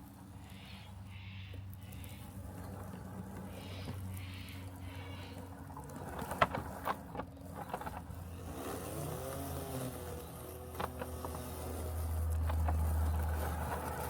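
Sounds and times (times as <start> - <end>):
robotic lawn mower humming: 0.0 - 14.0.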